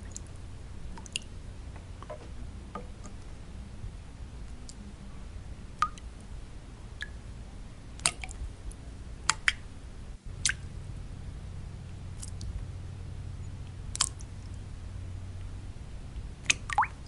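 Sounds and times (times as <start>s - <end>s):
low white-noise hiss: 0.0s - 17.0s.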